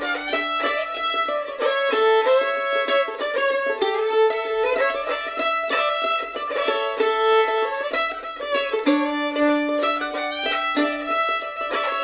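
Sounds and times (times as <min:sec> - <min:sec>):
fiddle playing melody: 0:00.0 - 0:12.0
mandolin picking rhythm: 0:00.0 - 0:12.0.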